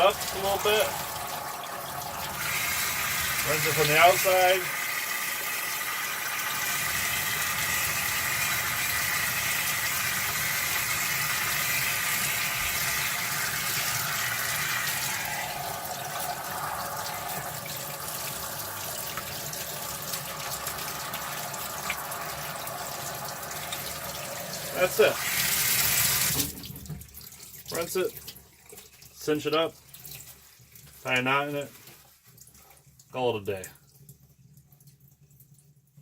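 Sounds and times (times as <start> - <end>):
tap water running into sink: 0.0 - 31.0.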